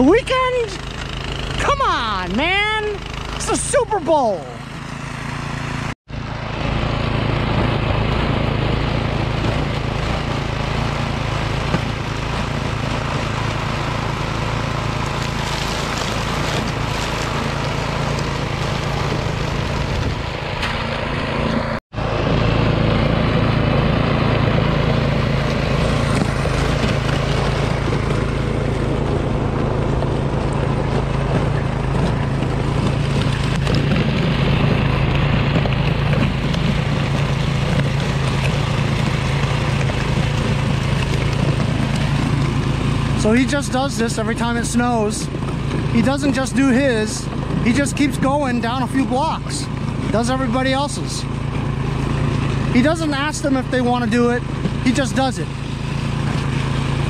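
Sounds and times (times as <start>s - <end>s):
snowblower engine running: 0.0s - 57.0s.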